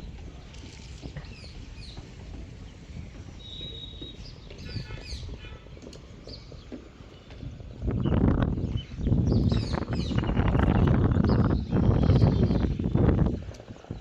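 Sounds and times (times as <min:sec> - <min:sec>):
small birds chirping: 0:01.2 - 0:13.2.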